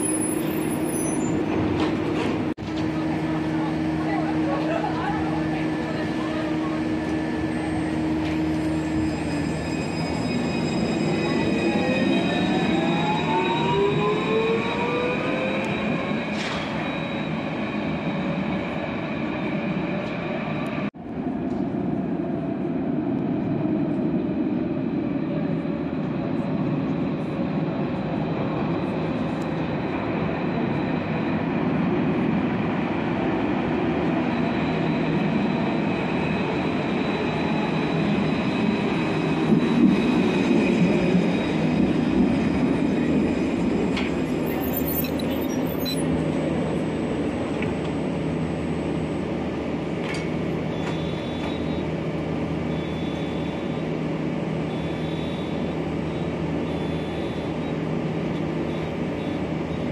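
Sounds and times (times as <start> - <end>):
tram motor whine: 0.0 - 59.9
tram passing close by: 0.0 - 59.9.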